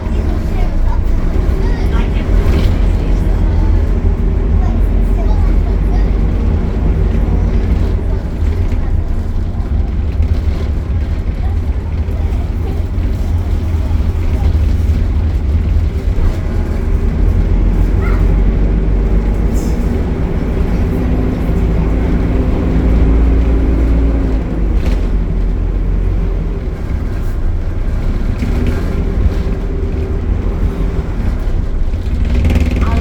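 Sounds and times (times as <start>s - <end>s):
bus engine drone: 0.0s - 33.0s.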